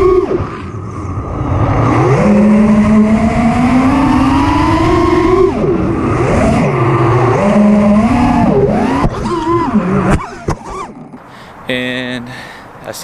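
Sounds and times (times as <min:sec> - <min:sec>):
drone motors whining: 0:00.0 - 0:11.2.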